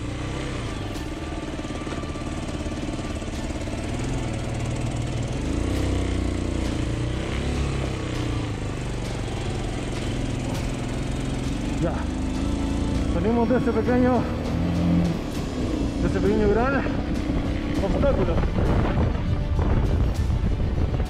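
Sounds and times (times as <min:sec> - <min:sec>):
motorcycle engine under load: 0:00.0 - 0:20.7.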